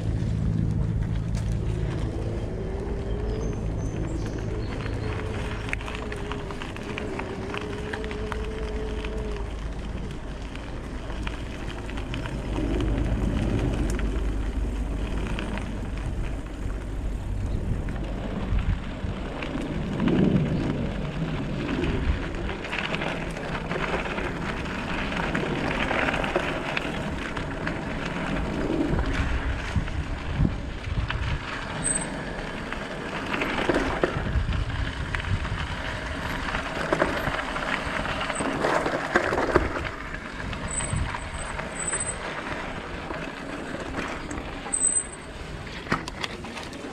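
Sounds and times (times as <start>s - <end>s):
tyres crunching on gravel: 0.0s - 46.9s
wind rumble on microphone: 0.0s - 46.9s.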